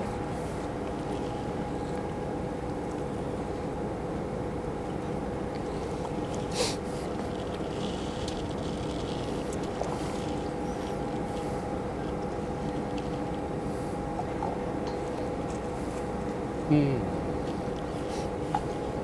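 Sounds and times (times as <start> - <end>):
constant rushing noise: 0.0 - 16.6
machine hum: 0.0 - 19.0.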